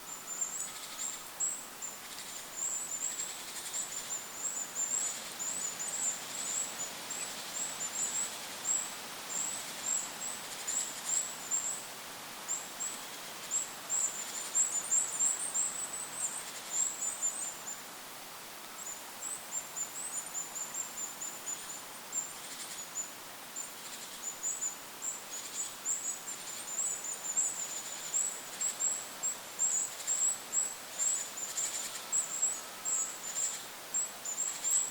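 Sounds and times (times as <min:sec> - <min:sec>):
light wind: 0:00.0 - 0:34.9.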